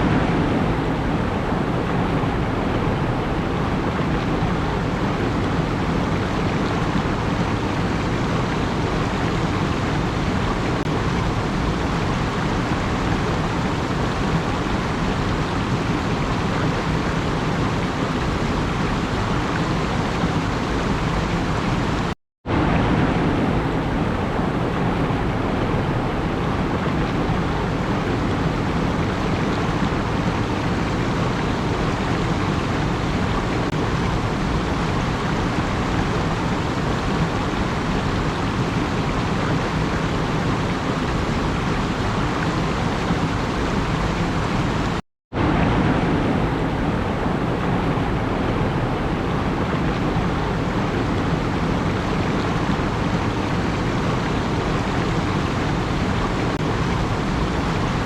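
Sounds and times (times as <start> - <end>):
continuous rushing noise: 0.0 - 58.0.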